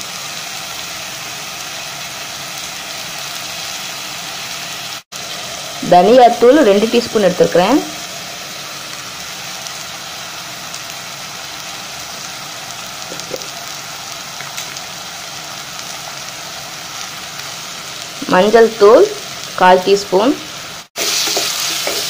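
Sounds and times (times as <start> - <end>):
chicken frying sizzle: 0.0 - 22.0.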